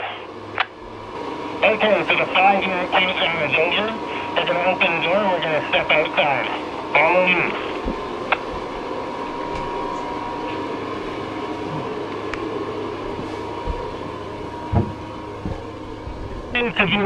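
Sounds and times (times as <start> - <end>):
mechanical whir with high whine: 0.0 - 17.0.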